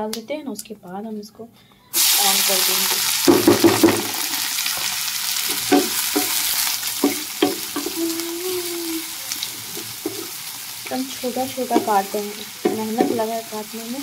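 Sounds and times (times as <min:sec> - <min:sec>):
onions sizzling in hot oil: 0:01.9 - 0:14.0.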